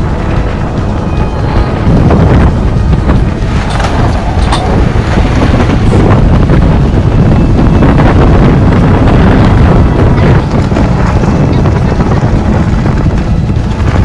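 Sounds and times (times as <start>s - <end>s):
breaking waves: 0.0s - 14.0s
rushing wind: 0.0s - 14.0s
wind buffeting microphone: 0.0s - 14.0s.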